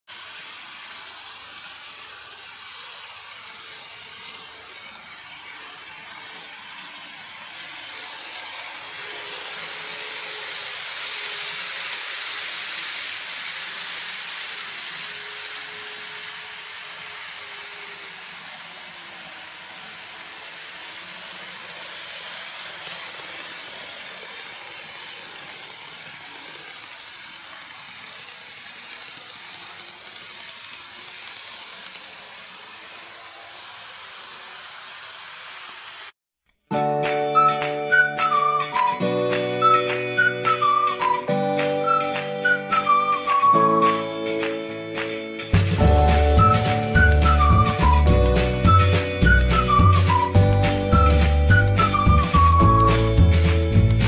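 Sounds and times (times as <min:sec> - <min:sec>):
model train wheels and motor hiss: 0:00.0 - 0:36.2, 0:37.4 - 0:54.0.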